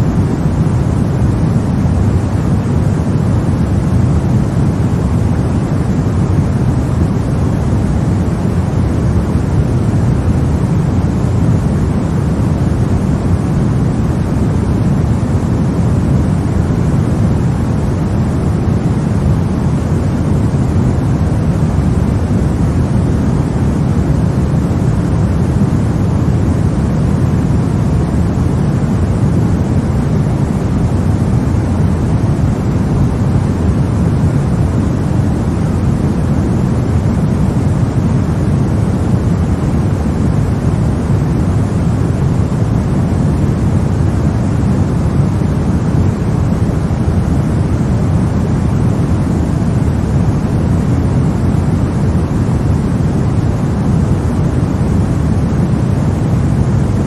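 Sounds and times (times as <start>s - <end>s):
deep steady rushing noise: 0.0s - 57.0s.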